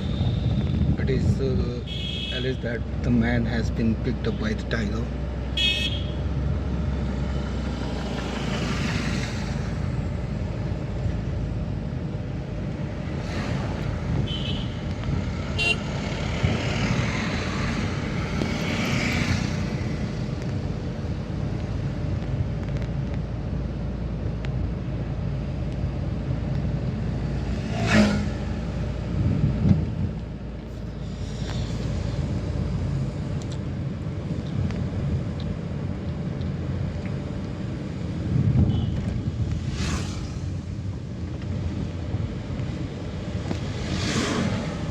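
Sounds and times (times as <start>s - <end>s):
vehicle engine and road rumble: 0.0s - 44.9s.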